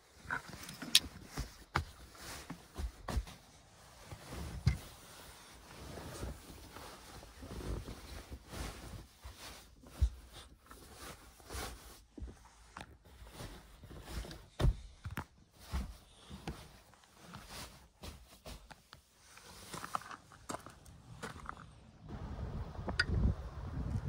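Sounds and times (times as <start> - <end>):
sleeping bag rustling: 0.0 - 20.5.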